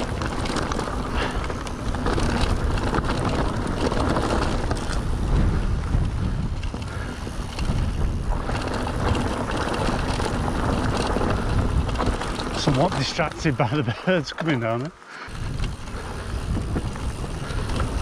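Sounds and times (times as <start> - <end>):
wind buffeting microphone: 0.0 - 14.5, 15.3 - 18.0
bike rattling: 0.0 - 18.0
bike tyre noise: 0.0 - 18.0.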